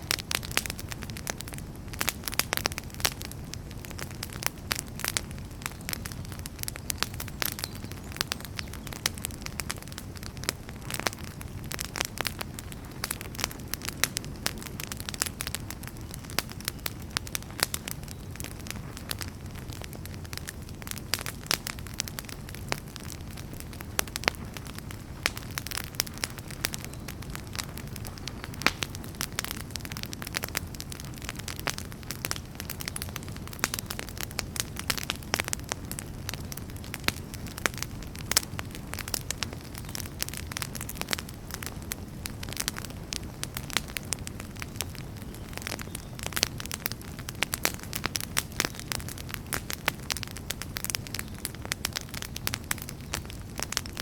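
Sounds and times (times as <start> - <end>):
fire flames rumbling: 0.0 - 54.0
wood fire crackling and popping: 0.0 - 54.0.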